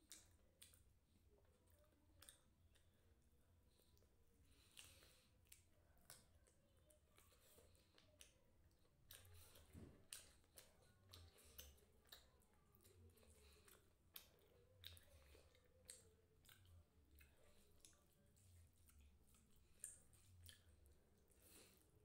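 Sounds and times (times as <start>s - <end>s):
lip smacks: 0.0s - 22.0s
person chewing food: 0.0s - 22.0s.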